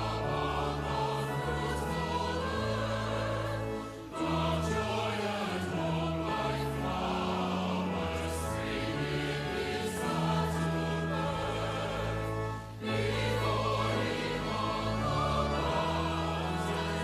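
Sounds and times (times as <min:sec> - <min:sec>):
choir singing a hymn: 0:00.0 - 0:17.0
organ: 0:00.0 - 0:17.0.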